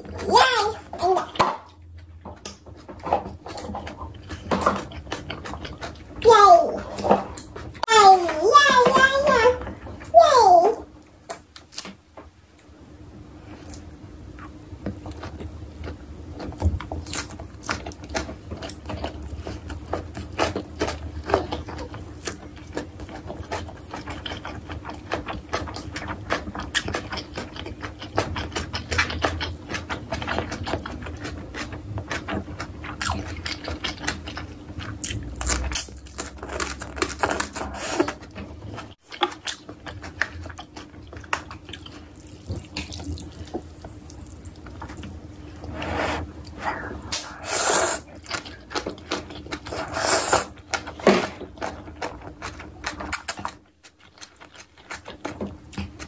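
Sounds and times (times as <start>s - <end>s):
faint steady hum: 0.0s - 56.0s
wet chewing and mouth smacking: 1.3s - 6.2s, 13.6s - 45.7s, 46.4s - 56.0s.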